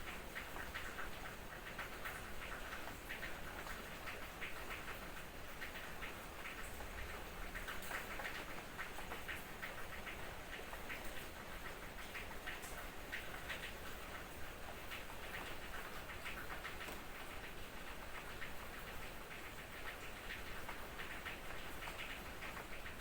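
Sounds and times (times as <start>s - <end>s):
raindrops ticking: 0.0s - 23.0s.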